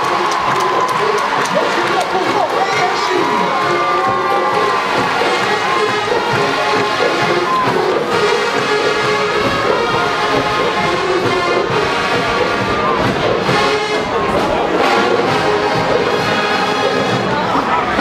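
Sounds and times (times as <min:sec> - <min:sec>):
brass section playing chords: 0:00.0 - 0:18.0
steady drum beat: 0:00.0 - 0:18.0.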